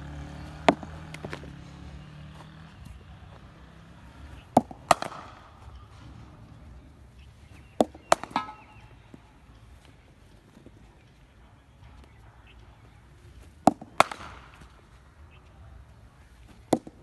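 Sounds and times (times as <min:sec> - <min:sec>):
cricket bat hitting ball: 0:00.2 - 0:17.0.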